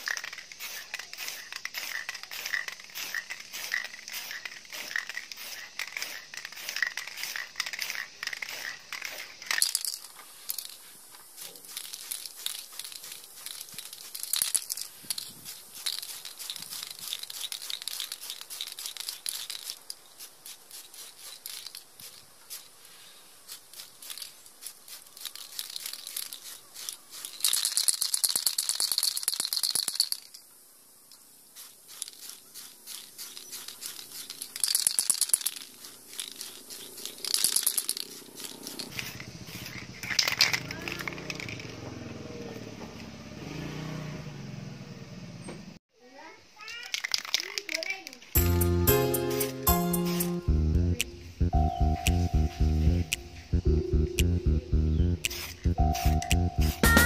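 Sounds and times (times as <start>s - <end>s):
spray can hissing: 0.0s - 30.3s, 31.5s - 41.5s, 48.4s - 57.0s
spray can mixing ball rattling: 0.0s - 30.4s, 31.5s - 41.8s, 46.7s - 53.6s, 54.2s - 57.0s.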